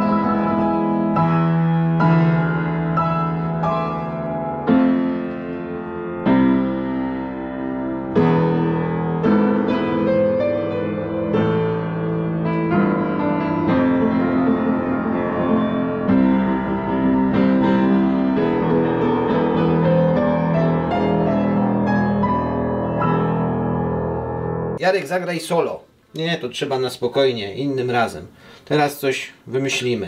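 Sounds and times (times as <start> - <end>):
upright piano chords and melody: 0.0 - 24.8.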